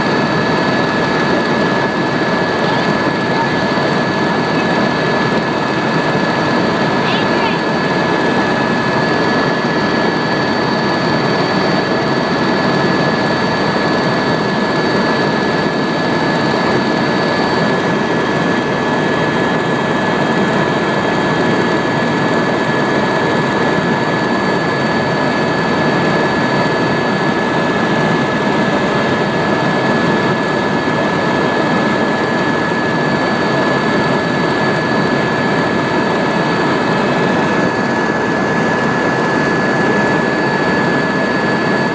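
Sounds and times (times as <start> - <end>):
helicopter cabin rumble: 0.0 - 41.9
high whine: 0.0 - 41.9.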